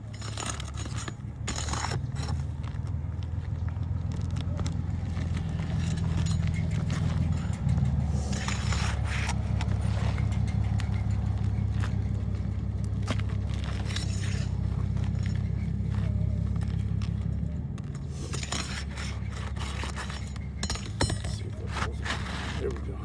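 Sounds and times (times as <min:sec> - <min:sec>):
metal tool scraping shingles: 0:00.0 - 0:02.8, 0:05.1 - 0:07.4, 0:08.0 - 0:17.2, 0:18.0 - 0:23.0
steady low hum: 0:00.0 - 0:23.0.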